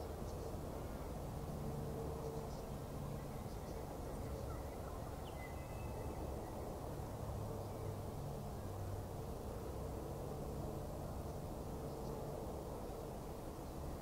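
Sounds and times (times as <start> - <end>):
faint hum: 0.0 - 14.0
low outdoor rumble: 0.0 - 14.0.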